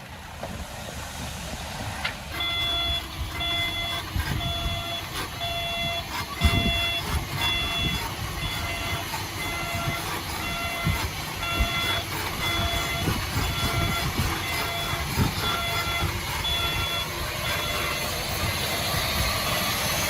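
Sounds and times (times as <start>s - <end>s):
low engine rumble: 0.0s - 20.0s
reversing alarm beeping: 2.3s - 20.0s.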